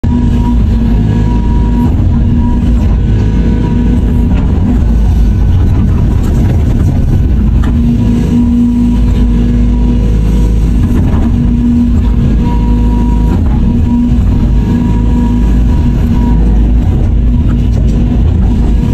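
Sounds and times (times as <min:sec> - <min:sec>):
model excavator running: 0:00.0 - 0:18.9
pitched mechanical whine: 0:00.0 - 0:18.9.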